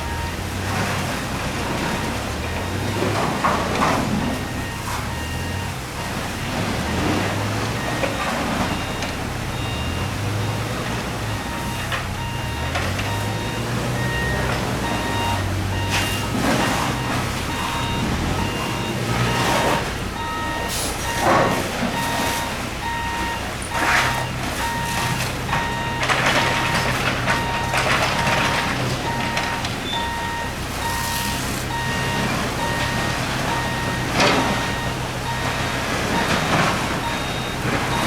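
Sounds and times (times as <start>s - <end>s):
engine humming: 0.0s - 38.0s
reversing alarm beeping: 0.0s - 38.0s.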